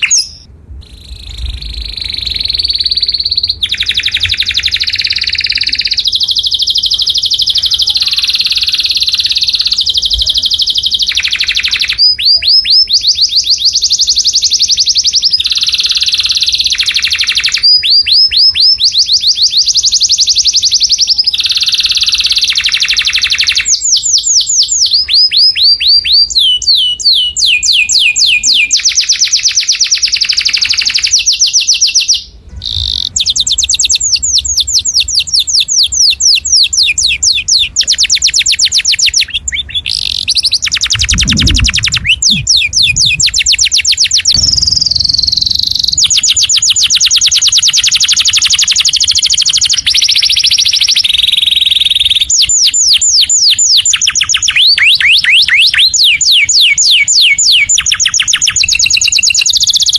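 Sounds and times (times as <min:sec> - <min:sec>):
canary singing rapid trills: 0:00.0 - 0:59.9.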